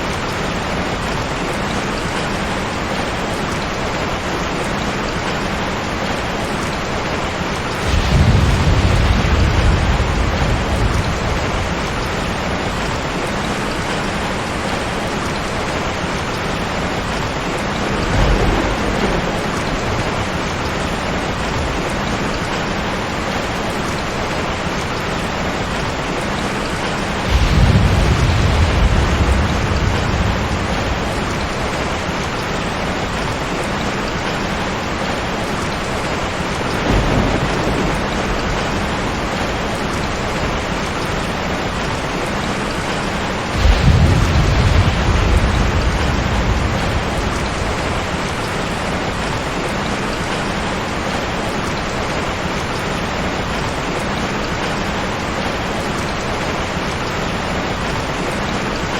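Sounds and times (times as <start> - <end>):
thunder rumbling: 0.0 - 53.7
heavy rain: 0.0 - 58.9.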